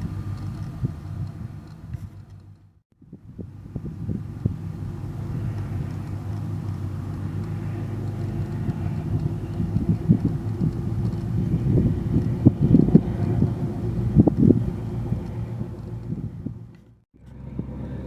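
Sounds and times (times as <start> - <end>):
diesel engines droning: 0.0 - 18.0.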